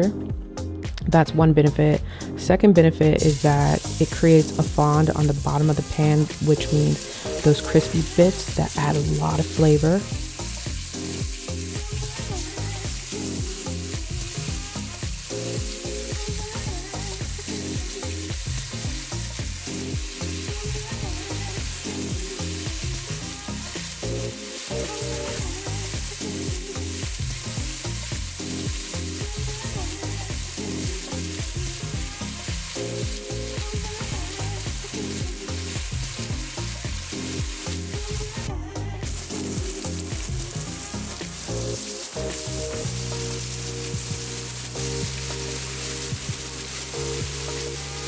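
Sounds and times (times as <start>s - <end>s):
low background music: 0.0s - 48.0s
meat sizzling in hot oil: 3.1s - 48.0s.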